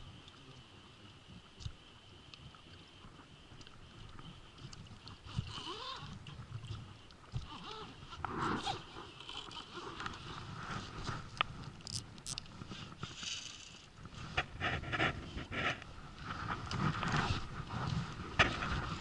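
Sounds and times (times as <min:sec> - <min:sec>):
water noise: 0:00.0 - 0:19.0
wind: 0:00.0 - 0:19.0.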